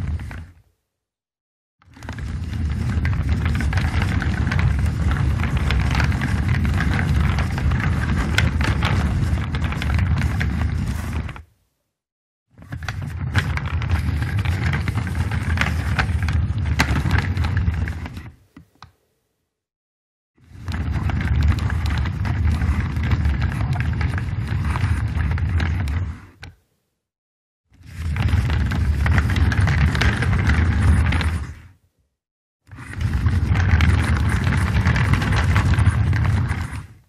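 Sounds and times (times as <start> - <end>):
office chair rolling on casters: 0.0 - 0.6, 1.8 - 11.4, 12.6 - 18.4, 20.4 - 26.5, 27.8 - 31.6, 32.7 - 37.0.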